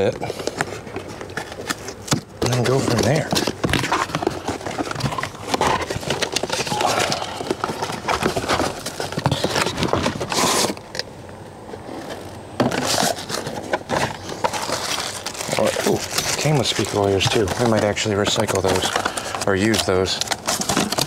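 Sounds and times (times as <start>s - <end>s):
cardboard rustling and scraping: 0.0s - 21.0s.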